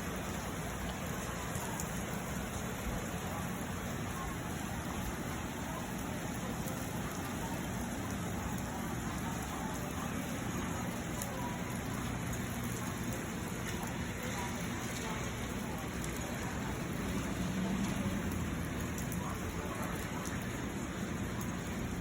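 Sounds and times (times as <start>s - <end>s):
rain falling steadily: 0.0s - 22.0s
raindrop ticks: 0.0s - 22.0s.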